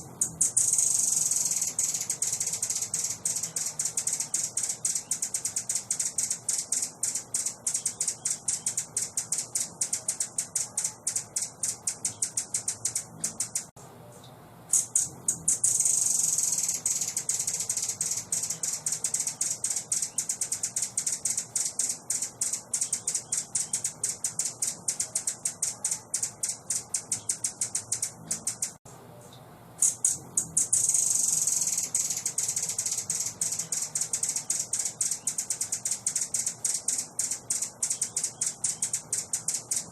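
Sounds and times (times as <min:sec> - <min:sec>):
songbird chattering song: 0:00.0 - 0:39.9
songbird trill: 0:00.0 - 0:39.9.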